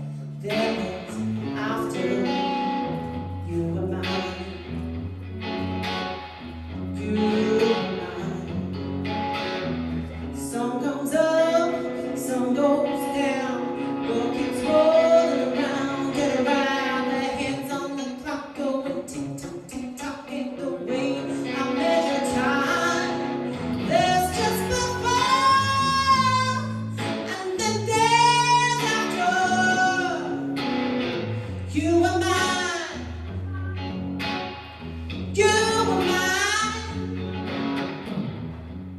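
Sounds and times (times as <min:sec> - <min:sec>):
guitar accompaniment: 0:00.0 - 0:38.9
woman singing: 0:00.4 - 0:04.8, 0:07.0 - 0:08.9, 0:10.2 - 0:30.6, 0:31.6 - 0:34.0, 0:35.3 - 0:37.3.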